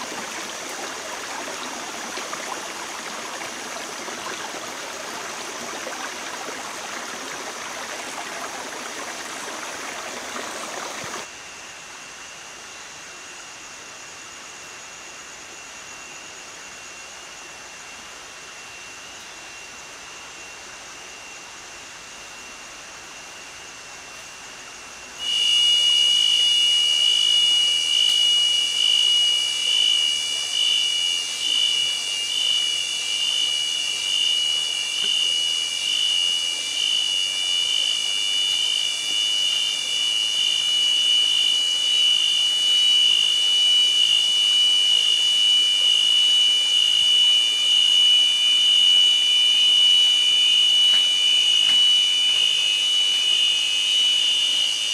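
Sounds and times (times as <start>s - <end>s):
cicada chorus drone: 0.0s - 54.9s.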